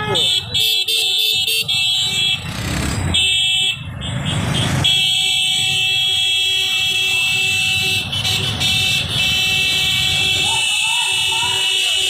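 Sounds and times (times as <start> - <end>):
engine and traffic noise: 0.0 - 12.0
vehicle horns blaring: 0.0 - 12.0.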